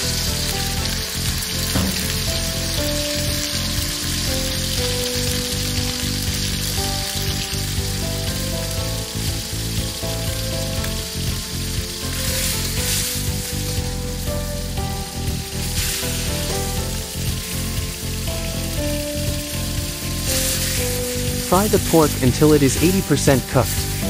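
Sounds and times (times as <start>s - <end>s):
meat sizzling in hot oil: 0.0s - 24.0s.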